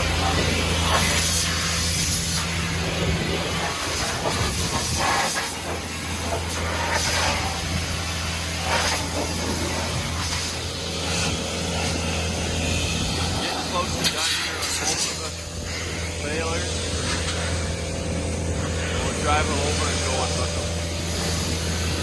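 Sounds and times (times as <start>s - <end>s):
compressed air blow gun hissing: 0.0s - 22.0s
engine humming: 0.0s - 22.0s.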